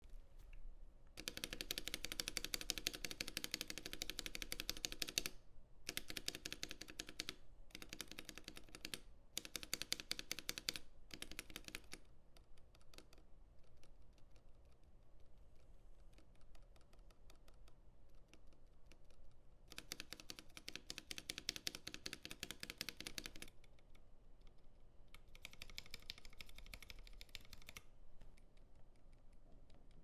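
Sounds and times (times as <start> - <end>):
mechanical keyboard typing: 1.2 - 15.3, 16.1 - 27.9.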